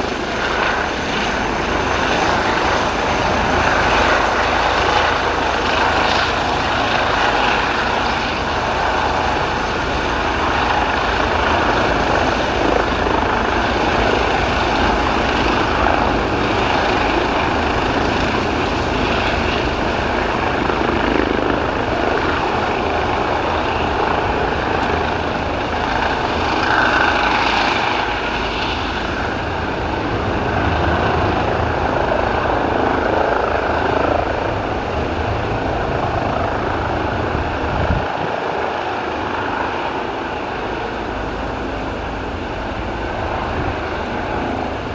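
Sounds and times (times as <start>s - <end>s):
helicopter engines and rotors: 0.0s - 44.9s.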